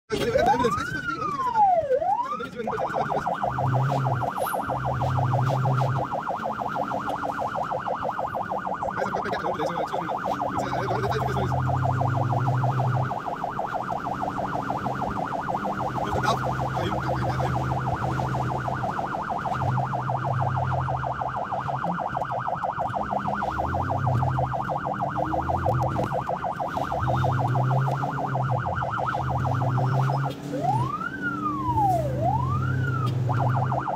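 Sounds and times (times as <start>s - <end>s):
ambulance siren wailing and yelping: 0.1s - 33.9s.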